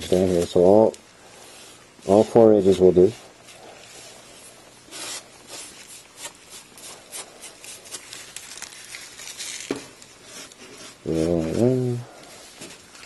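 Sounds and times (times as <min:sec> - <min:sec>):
plastic sheeting crinkling: 0:01.4 - 0:13.0.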